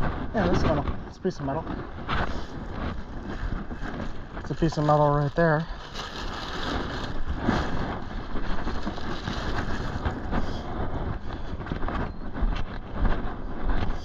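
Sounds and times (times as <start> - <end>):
steady rushing noise: 0.0 - 14.0
wind buffeting microphone: 0.0 - 14.0.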